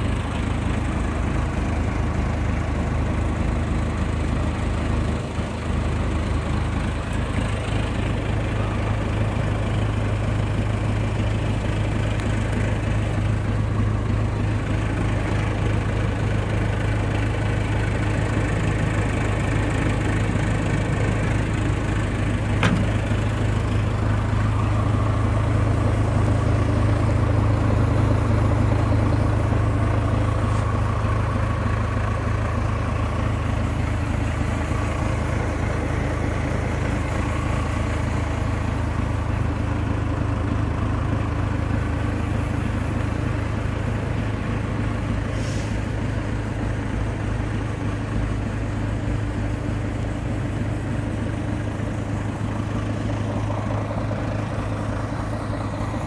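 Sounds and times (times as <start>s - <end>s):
heavy engine idling: 0.0s - 56.0s.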